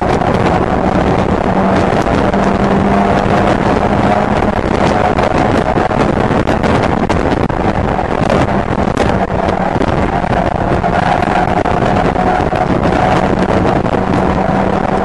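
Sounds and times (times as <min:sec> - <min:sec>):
race car engine running hard: 0:00.0 - 0:15.0
wind buffeting microphone: 0:00.0 - 0:15.0.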